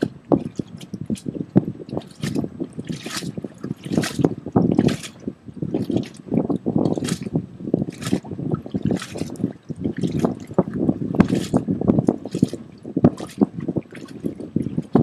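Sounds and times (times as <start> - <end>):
water lapping against dock: 0.0 - 15.0.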